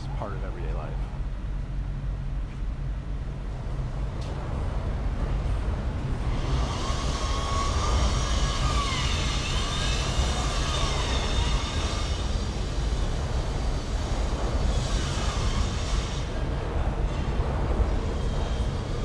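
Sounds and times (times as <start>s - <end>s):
low rumble of city noise: 0.0s - 19.0s.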